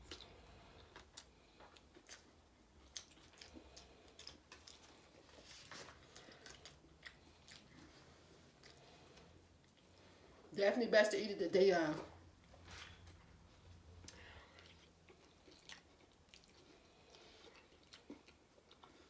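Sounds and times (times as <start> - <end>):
person chewing food: 0.0 - 10.3, 12.6 - 19.0.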